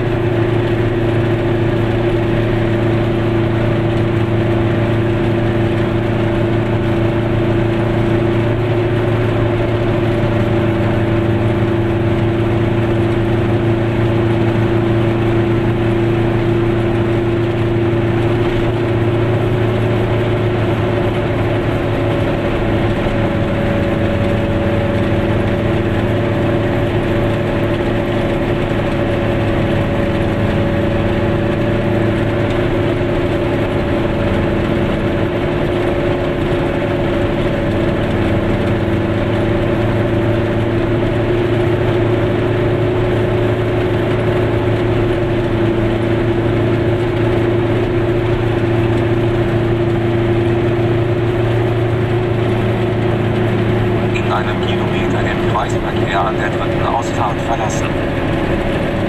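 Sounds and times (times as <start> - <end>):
car engine droning: 0.0 - 59.0
road noise: 0.0 - 59.0.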